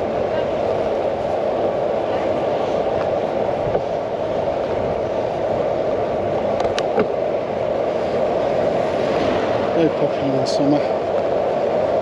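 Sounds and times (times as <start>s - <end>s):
bicycle tyres rolling on path: 0.0s - 12.0s
wind over camera: 0.0s - 12.0s.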